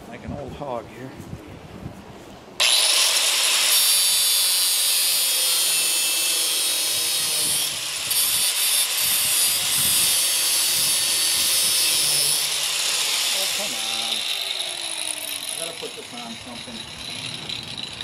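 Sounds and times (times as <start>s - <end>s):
angle grinder cutting metal: 2.6s - 18.0s.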